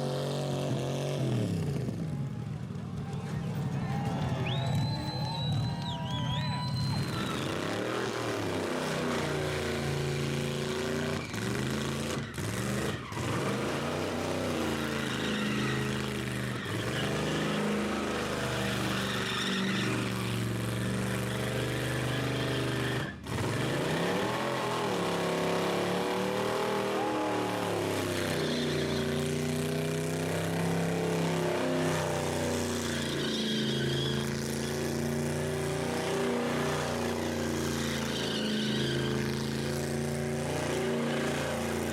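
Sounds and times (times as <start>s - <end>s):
engine revving hard: 6.8s - 41.9s.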